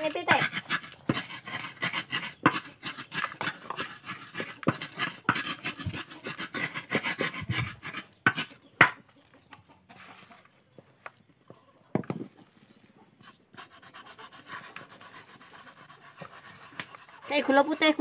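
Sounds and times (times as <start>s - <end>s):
hand rubbing gritty mixture: 0.0s - 8.6s, 10.0s - 18.0s.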